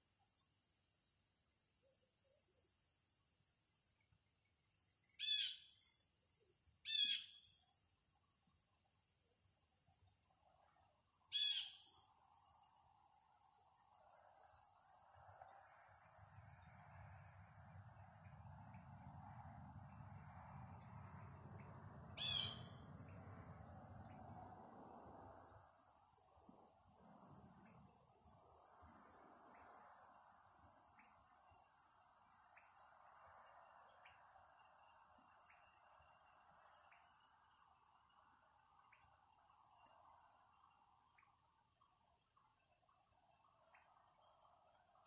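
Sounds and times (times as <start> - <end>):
insects chorus: 0.0 - 45.0.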